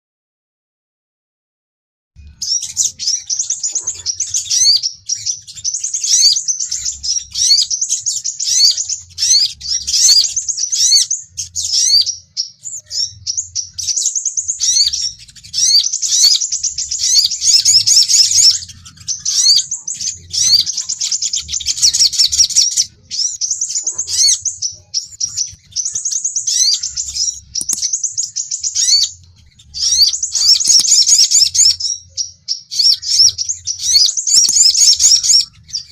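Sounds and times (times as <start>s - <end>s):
sunbirds chirping: 2.2s - 35.9s.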